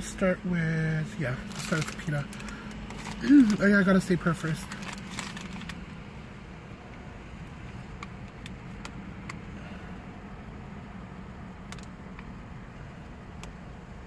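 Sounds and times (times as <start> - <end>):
vehicle cabin hum: 0.0 - 14.0.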